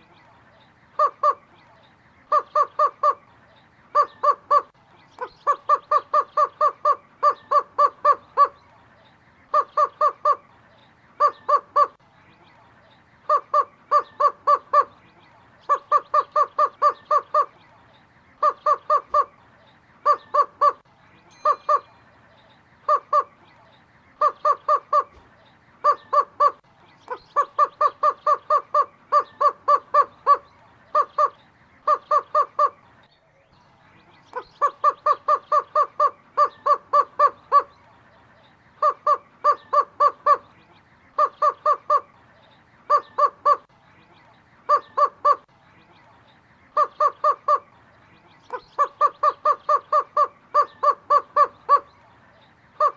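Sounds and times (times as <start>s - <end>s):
roadrunner calling: 0.0s - 33.0s, 33.6s - 52.9s.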